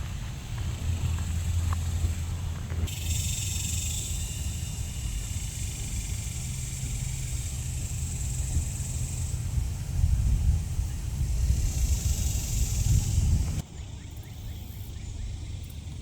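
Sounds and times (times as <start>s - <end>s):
steady high hiss: 0.0s - 13.6s
steady low rumble: 0.0s - 13.6s.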